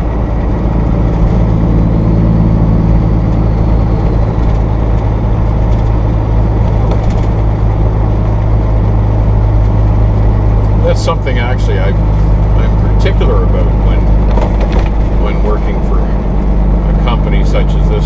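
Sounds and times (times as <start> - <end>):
diesel truck engine drone: 0.0 - 18.0.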